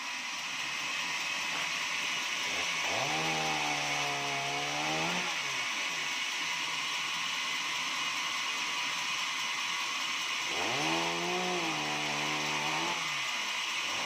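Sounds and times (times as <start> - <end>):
sawmill machine whine and hiss: 0.0 - 14.0.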